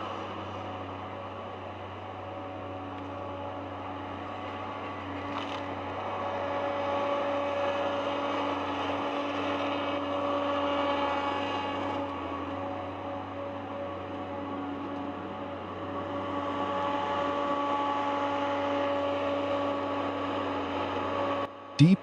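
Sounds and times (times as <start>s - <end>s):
heavy machine engine humming: 0.0s - 22.0s.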